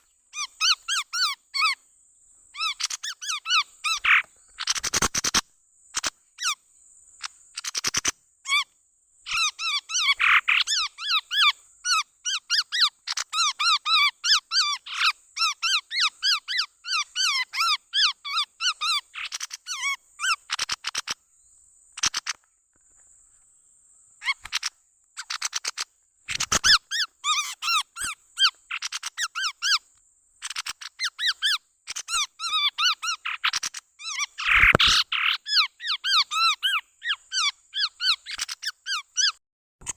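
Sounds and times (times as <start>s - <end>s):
rapid squeaky bird chirping: 0.0s - 1.8s, 2.6s - 6.6s, 7.2s - 8.7s, 9.3s - 21.2s, 22.0s - 22.4s, 24.2s - 39.9s.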